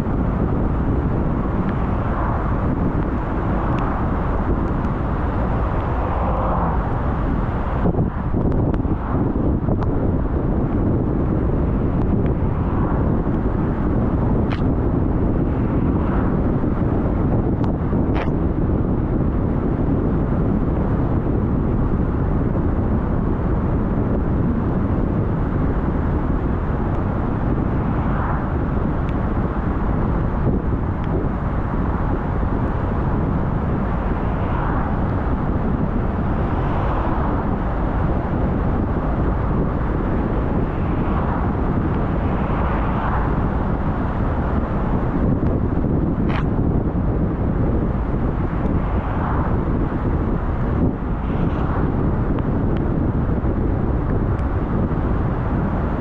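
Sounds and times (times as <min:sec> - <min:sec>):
car driving rumble: 0:00.0 - 0:56.0
wind noise on microphone: 0:00.0 - 0:56.0.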